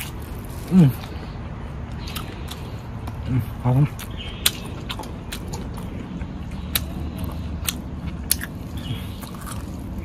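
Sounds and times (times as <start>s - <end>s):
person chewing and biting: 0.0s - 10.0s.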